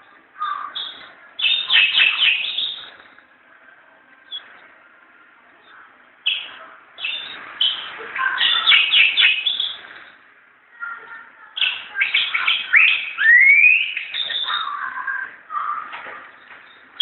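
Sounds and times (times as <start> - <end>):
bird chirping and trilling: 0.4 - 3.2, 5.6 - 17.0.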